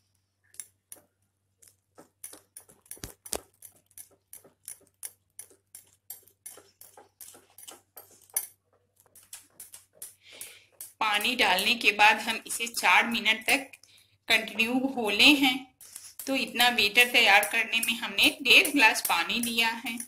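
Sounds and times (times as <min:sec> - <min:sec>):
wire whisk beating batter: 0:00.4 - 0:20.0.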